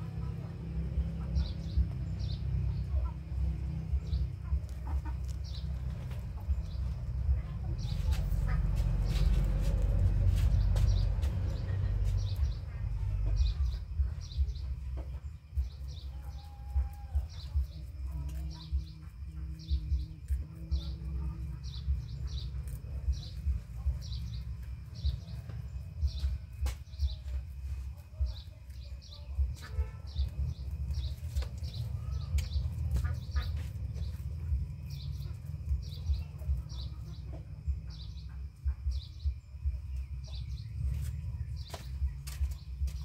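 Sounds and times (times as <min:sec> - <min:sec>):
low rumble: 0:00.0 - 0:43.0
small bird chirping: 0:00.0 - 0:43.0
soft irregular thumps: 0:03.7 - 0:43.0.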